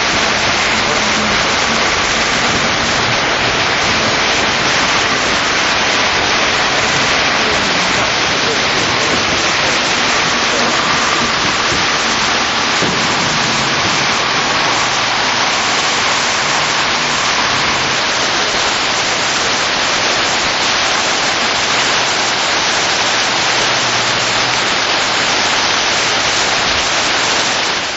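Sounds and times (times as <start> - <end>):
river rapids roaring: 0.0 - 27.9.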